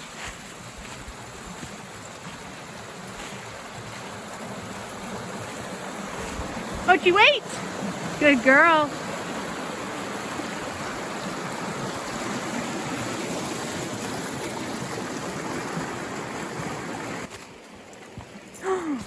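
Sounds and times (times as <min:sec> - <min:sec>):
stream rushing water: 0:00.0 - 0:19.0.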